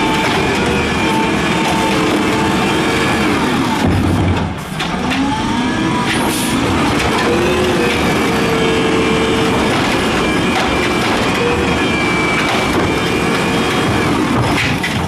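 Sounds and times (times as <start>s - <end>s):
diesel truck engine revving: 0.0s - 14.8s.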